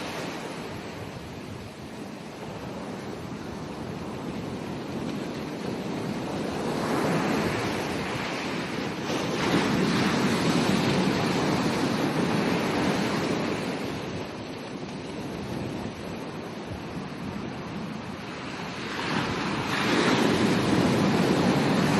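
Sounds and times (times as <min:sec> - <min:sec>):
ocean waves breaking on beach: 0:00.0 - 0:21.9.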